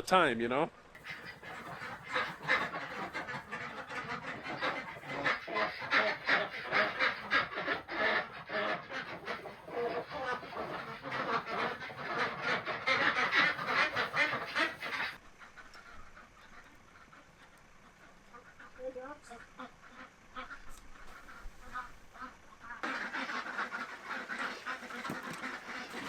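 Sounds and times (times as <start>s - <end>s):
ducks quacking: 1.0s - 26.0s.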